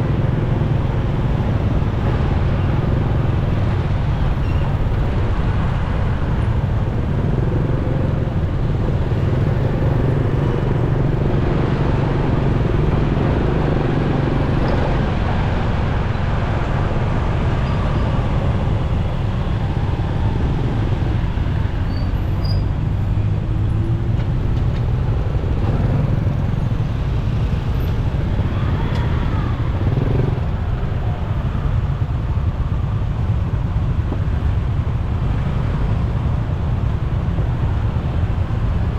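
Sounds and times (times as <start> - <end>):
motorcycle engine drone: 0.0 - 38.9
vehicles passing: 0.0 - 38.9.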